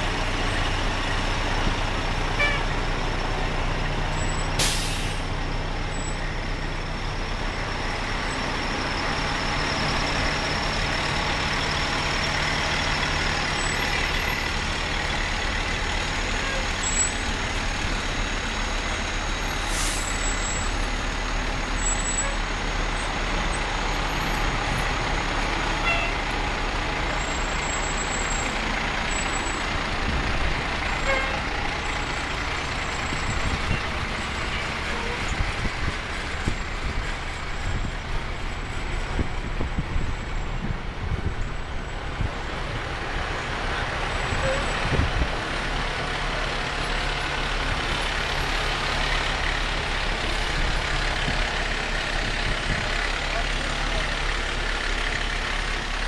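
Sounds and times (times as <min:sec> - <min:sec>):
fire truck engines rumbling: 0:00.0 - 0:56.0.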